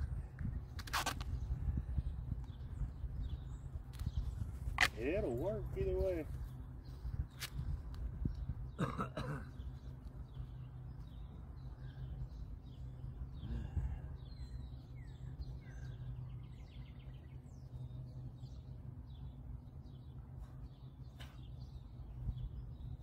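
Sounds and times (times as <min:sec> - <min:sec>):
low background rumble: 0:00.0 - 0:23.0
small birds chirping: 0:00.0 - 0:23.0.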